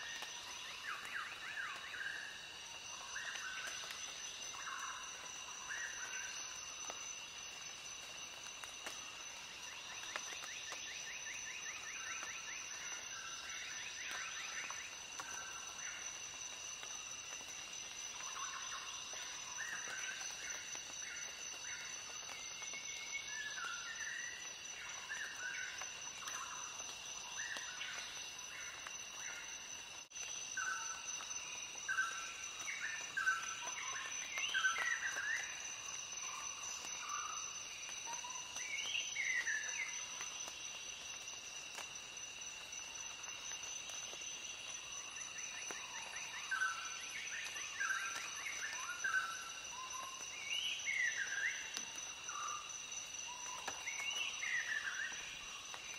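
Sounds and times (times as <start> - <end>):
insect drone: 0.0 - 55.9.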